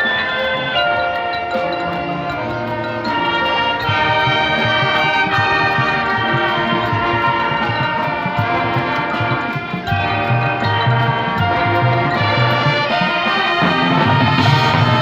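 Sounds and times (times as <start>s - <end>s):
brass sustained chords: 0.0s - 15.0s
steady drum pulse: 1.8s - 15.0s.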